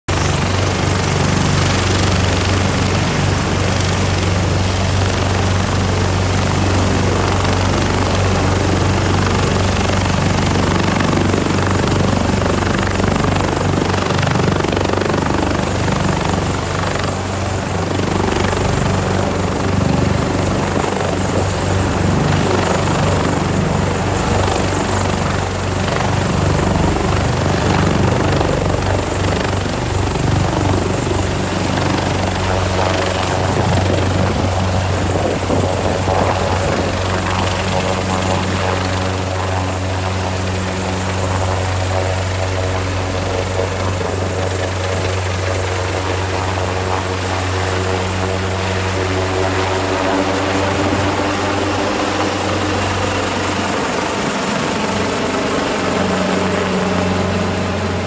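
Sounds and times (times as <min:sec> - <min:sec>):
helicopter rotor drone: 0:00.1 - 0:58.0
turbine whine: 0:00.1 - 0:58.0.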